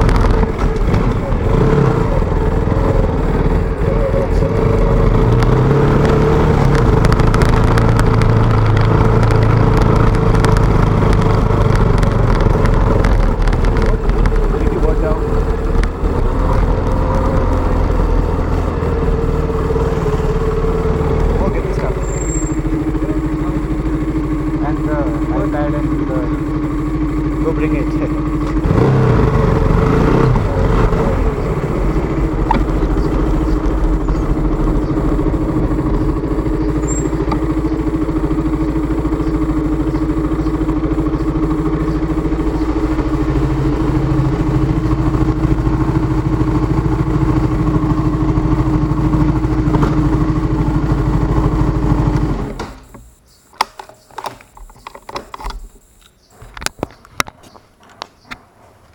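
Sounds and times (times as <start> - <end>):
motorcycle engine idling: 0.0 - 53.5.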